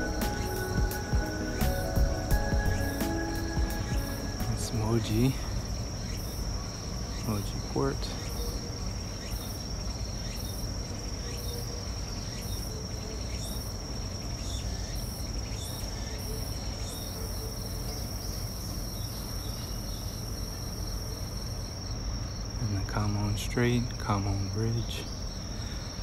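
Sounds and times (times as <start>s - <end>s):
insect pulsed buzzing call: 0.0s - 22.8s
insect high-pitched drone: 0.0s - 26.0s.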